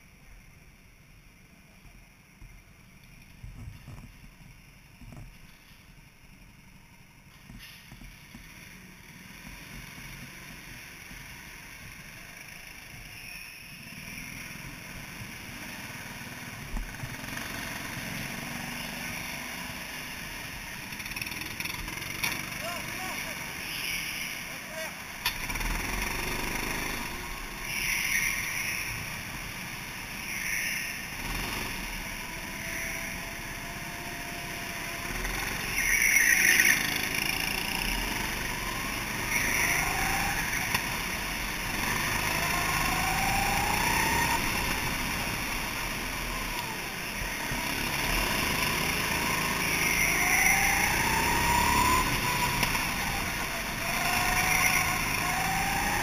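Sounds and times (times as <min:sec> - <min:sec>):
go-karts engines: 0:00.0 - 0:56.0.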